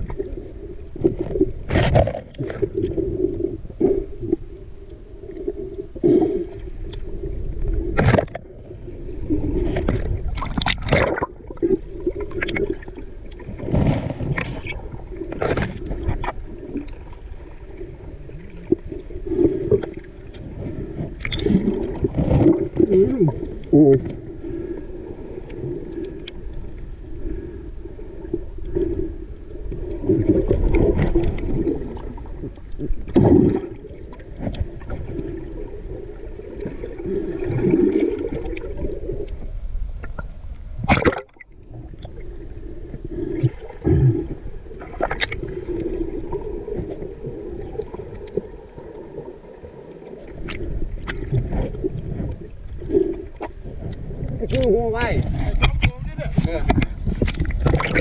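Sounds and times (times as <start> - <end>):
muffled underwater rushing water: 0.0 - 58.0.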